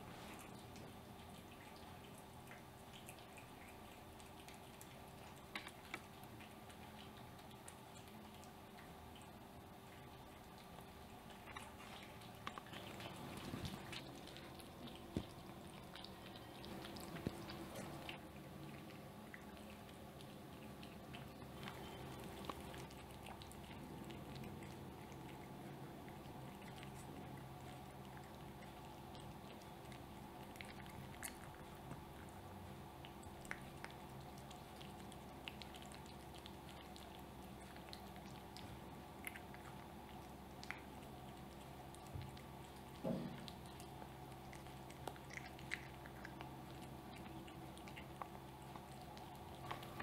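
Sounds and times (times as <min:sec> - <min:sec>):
cat chewing and licking: 0:00.0 - 0:50.0.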